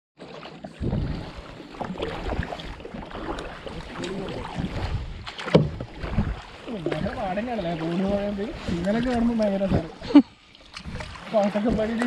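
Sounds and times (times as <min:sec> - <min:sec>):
water splashing: 0:00.2 - 0:12.0
low rumble on microphone: 0:00.8 - 0:12.0
paddle knocks: 0:00.8 - 0:12.0.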